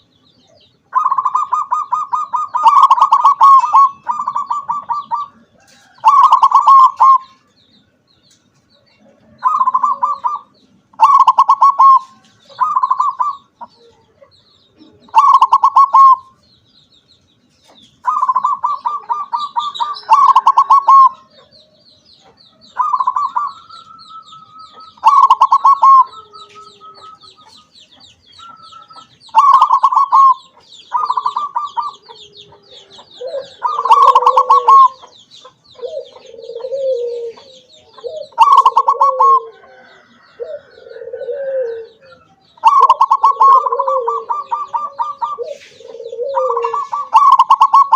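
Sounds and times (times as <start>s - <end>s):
faint high chirping: 0.0s - 47.9s
dove cooing: 0.9s - 7.5s, 8.8s - 16.4s, 18.0s - 47.9s.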